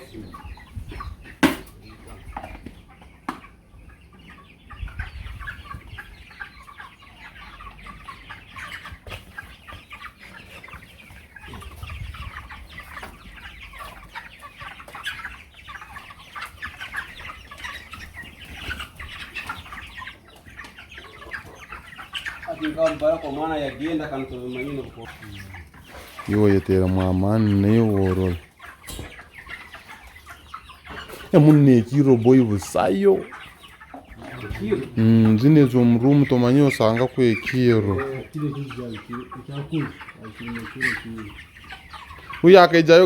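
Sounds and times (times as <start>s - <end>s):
chicks cheeping and clucking: 0.0s - 43.0s.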